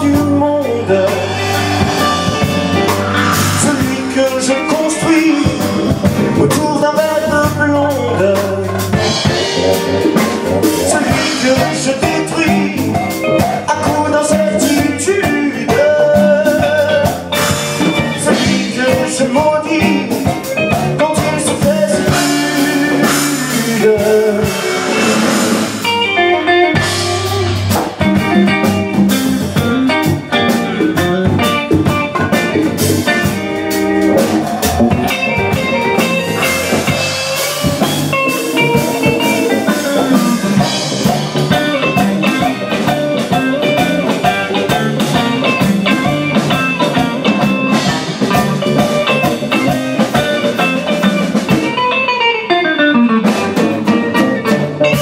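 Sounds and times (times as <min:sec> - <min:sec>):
drum kit: 0:00.0 - 0:55.0
electric and acoustic guitars: 0:00.0 - 0:55.0.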